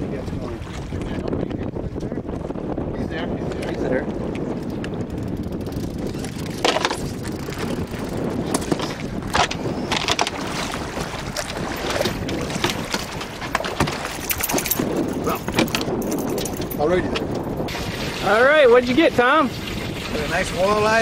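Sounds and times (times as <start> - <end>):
boat engine rumble: 0.0 - 21.0
water running along hull: 0.0 - 21.0
wind on microphone: 0.0 - 21.0.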